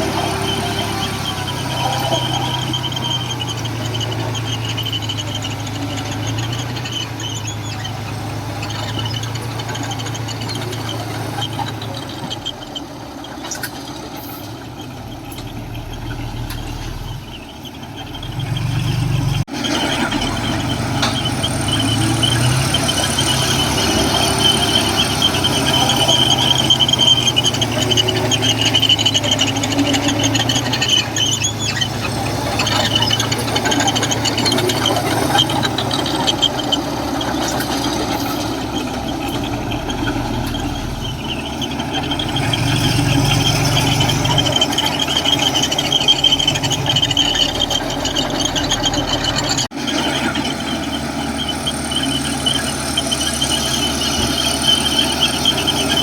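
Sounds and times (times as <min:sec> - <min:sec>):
bulldozer diesel engine running: 0:00.0 - 0:56.0
high-pitched squeal: 0:00.0 - 0:56.0.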